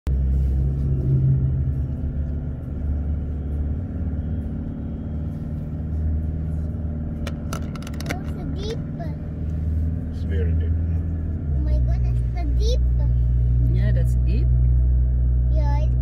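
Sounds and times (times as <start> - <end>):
vehicle engine droning: 0.1 - 16.0.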